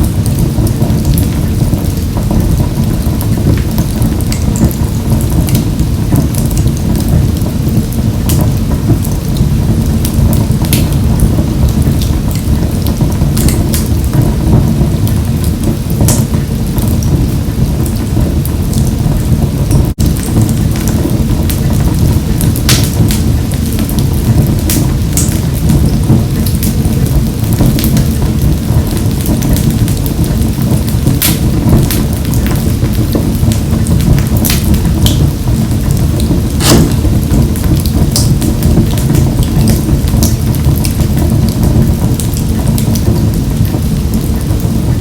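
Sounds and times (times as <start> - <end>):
fire crackles and pops: 0.0 - 45.0
flames roaring in a stove: 0.0 - 45.0.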